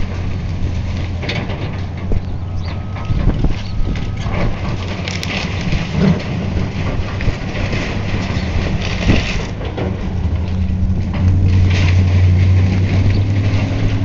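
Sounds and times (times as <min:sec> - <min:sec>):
crackling: 0:00.0 - 0:14.0
debris crunching and breaking: 0:00.0 - 0:14.0
diesel engine running: 0:00.0 - 0:14.0.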